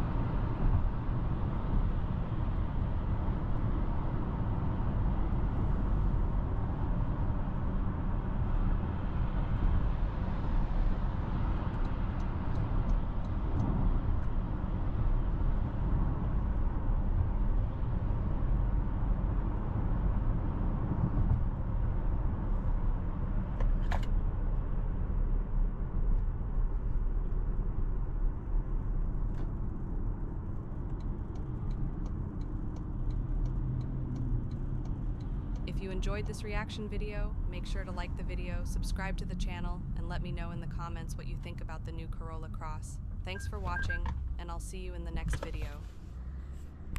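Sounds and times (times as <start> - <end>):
engine hum: 0.0 - 46.9
road and tyre rumble: 0.0 - 46.9.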